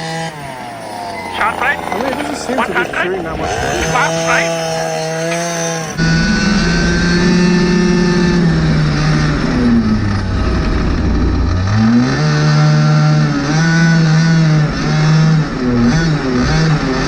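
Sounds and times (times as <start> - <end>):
rc car engine revving: 0.0 - 17.0.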